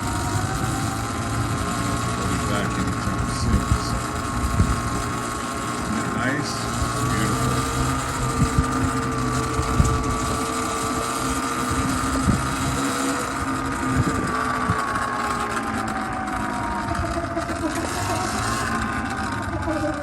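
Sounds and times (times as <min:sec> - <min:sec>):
small motor whining: 0:00.0 - 0:20.0.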